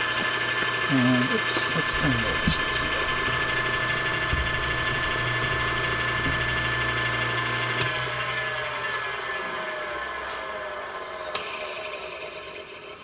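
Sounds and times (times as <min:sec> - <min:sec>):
lathe motor humming and whining: 0:00.0 - 0:13.0.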